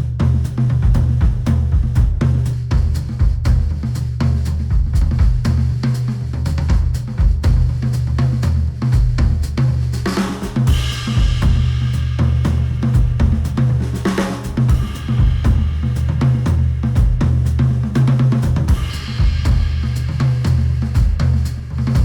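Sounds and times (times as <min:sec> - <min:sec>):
heavy bass: 0:00.0 - 0:22.0
music with drum beat: 0:00.0 - 0:22.0.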